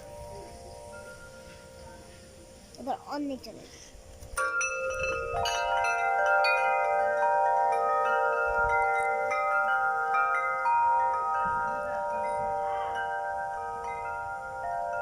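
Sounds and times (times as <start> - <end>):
metal chimes ringing: 0.0 - 15.0.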